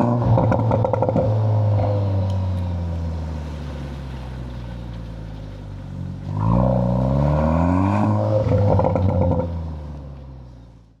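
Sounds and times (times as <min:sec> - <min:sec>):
car engine revving: 0:00.0 - 0:10.3
exhaust crackle: 0:00.0 - 0:10.8.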